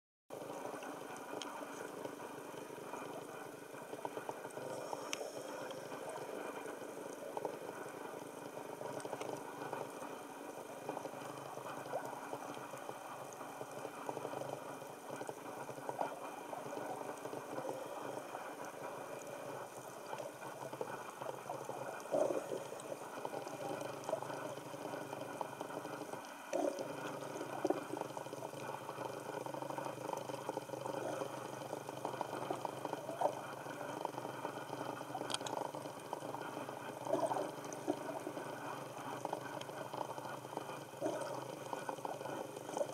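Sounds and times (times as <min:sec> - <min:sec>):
faint clicks: 0:00.7 - 0:03.3, 0:03.9 - 0:42.9.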